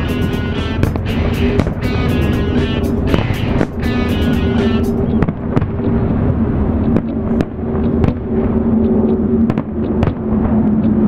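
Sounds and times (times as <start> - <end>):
fireworks bursting with sharp bangs: 0.0 - 6.4, 7.0 - 8.7, 9.4 - 10.6
steady low tone: 0.0 - 11.0.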